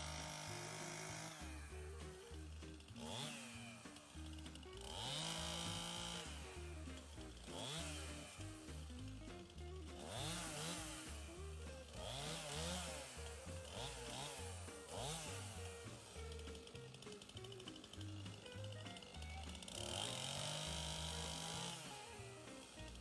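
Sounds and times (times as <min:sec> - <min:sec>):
background music: 0:00.0 - 0:23.0
chainsaw cutting wood: 0:00.0 - 0:23.0.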